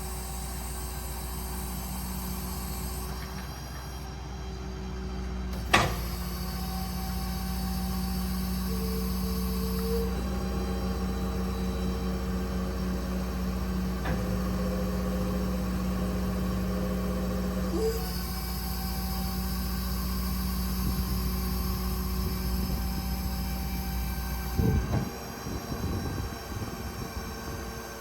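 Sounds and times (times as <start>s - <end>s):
heavy truck machinery rumbling: 0.0s - 28.0s.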